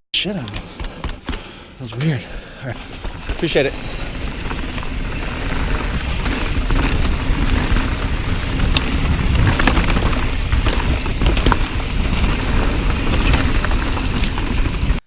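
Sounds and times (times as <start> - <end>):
bike clicks and rattles: 0.4 - 1.7, 2.4 - 15.0
wind and tyre rumble: 2.0 - 15.0.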